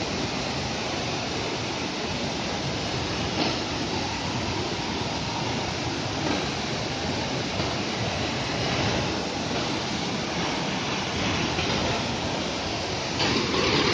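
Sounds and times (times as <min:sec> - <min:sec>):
waterfall rushing over rocks: 0:00.0 - 0:13.9.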